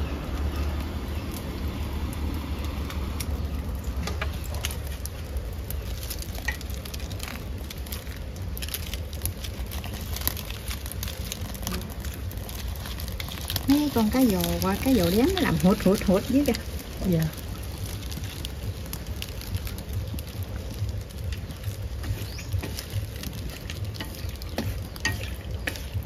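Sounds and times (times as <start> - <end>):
firewood crackling and popping: 0.0 - 26.0
steady low rumble: 0.0 - 26.0.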